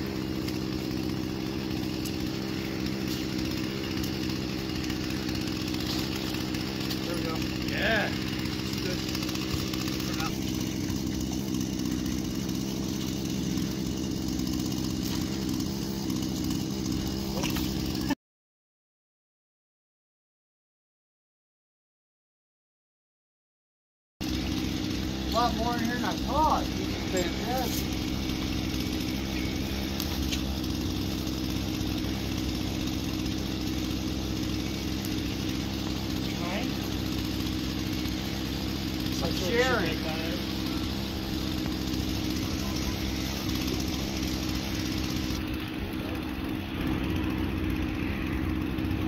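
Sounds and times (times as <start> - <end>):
engine idling: 0.0 - 18.2, 24.2 - 49.0.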